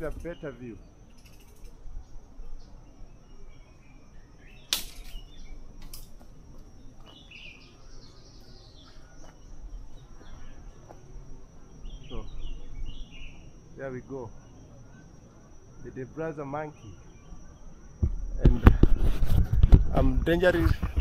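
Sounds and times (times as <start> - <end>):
faint bird chirps: 0.0 - 5.8, 6.8 - 11.0, 11.6 - 18.8.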